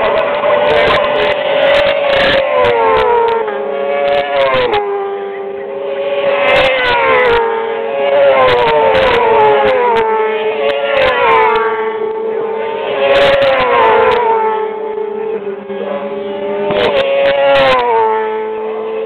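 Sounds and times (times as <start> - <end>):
racing motorcycles downshifting: 0.0 - 19.0.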